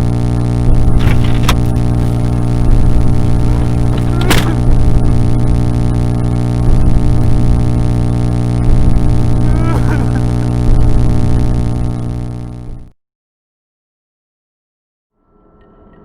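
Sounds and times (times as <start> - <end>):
distorted droning music: 0.0 - 12.9
short crackle: 0.0 - 12.9.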